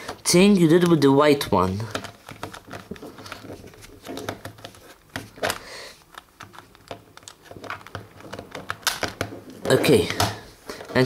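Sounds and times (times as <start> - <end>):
plastic cube clicks and rattles: 0.0 - 11.0.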